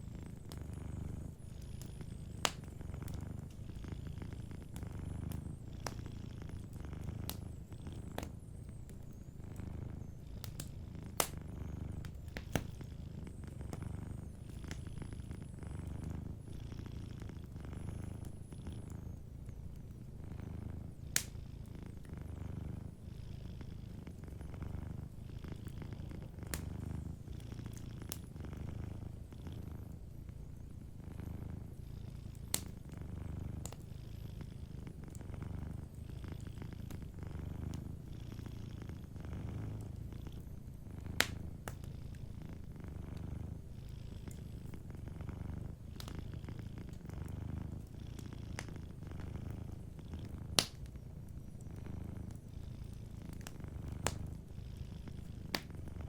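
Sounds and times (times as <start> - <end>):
wood fire crackling: 0.0 - 23.0, 23.7 - 56.0
cat purring: 0.0 - 56.0.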